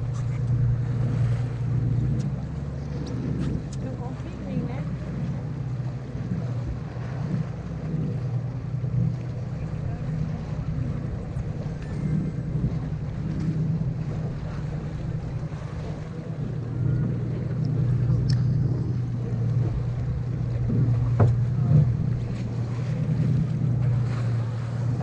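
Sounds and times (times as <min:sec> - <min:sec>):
boat engine running: 0:00.0 - 0:25.0
water noise: 0:00.0 - 0:25.0.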